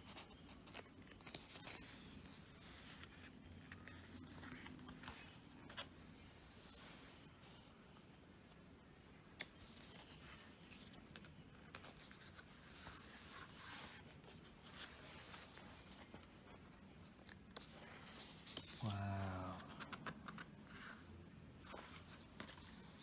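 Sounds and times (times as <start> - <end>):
pages rustling: 0.0 - 8.7, 9.3 - 19.0, 19.6 - 23.0.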